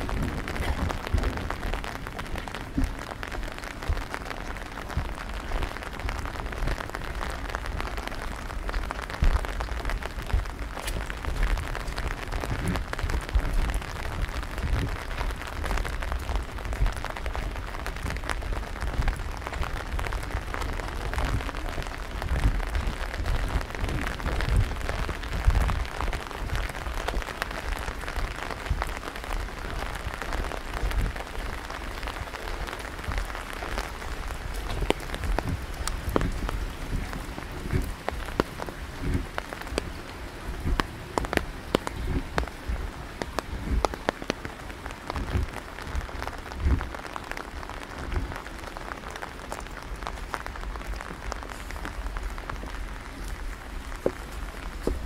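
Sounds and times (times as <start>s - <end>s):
low rumble: 0.0s - 44.1s
rain pattering on surfaces: 0.0s - 55.0s
raindrops ticking sharply: 0.0s - 55.0s.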